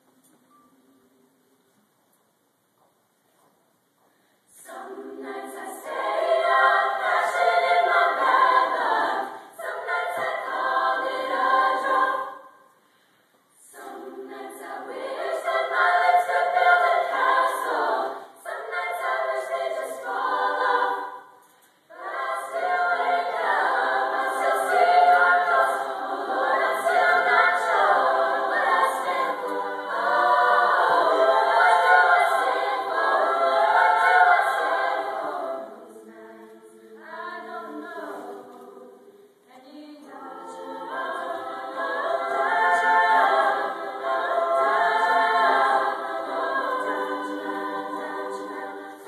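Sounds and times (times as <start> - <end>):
female a cappella choir singing: 4.5 - 12.8, 13.5 - 49.0.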